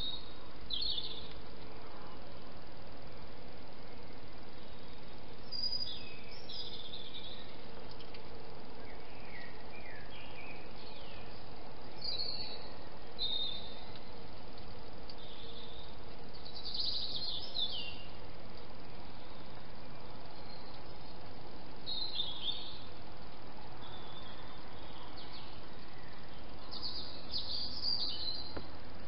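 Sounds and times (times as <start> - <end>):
background hiss: 0.0 - 29.0
songbird singing: 0.0 - 29.0.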